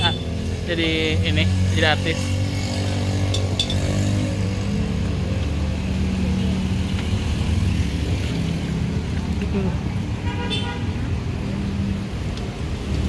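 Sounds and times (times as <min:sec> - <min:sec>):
car and motorcycle engines passing: 0:00.0 - 0:13.0.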